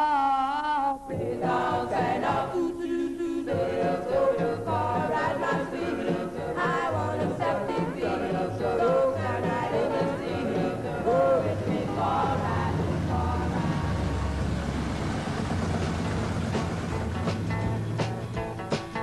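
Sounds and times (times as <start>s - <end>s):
voices singing in harmony: 0.0s - 15.4s
bass line: 3.6s - 19.0s.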